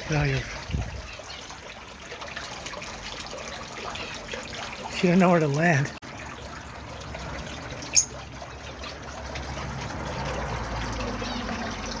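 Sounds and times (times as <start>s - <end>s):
trickling water: 0.0s - 12.0s.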